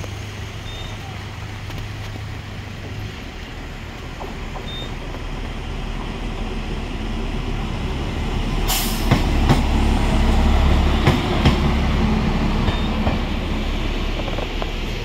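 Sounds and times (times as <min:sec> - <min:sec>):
diesel engine rumble: 0:00.0 - 0:15.0.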